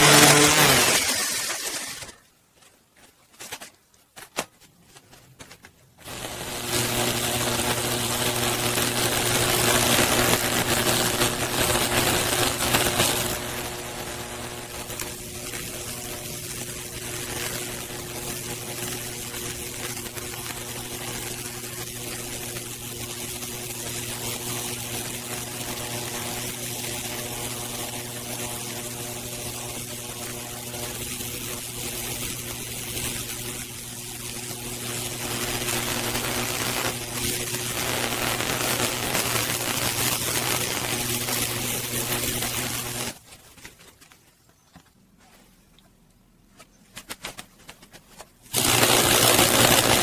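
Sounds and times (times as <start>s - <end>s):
electric arcs crackling: 0.0s - 2.4s, 5.3s - 43.7s, 47.0s - 50.0s
steady electrical hum: 4.4s - 43.5s, 47.2s - 50.0s.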